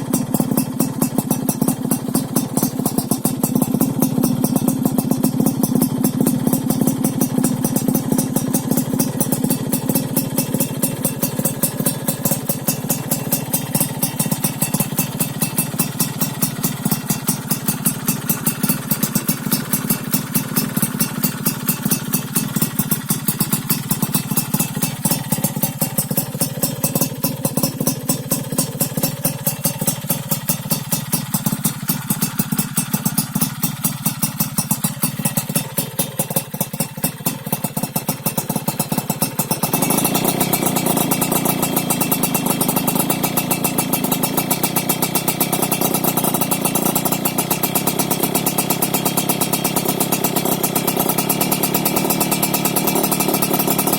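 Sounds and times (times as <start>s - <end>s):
two-stroke engine idling: 0.0s - 53.9s.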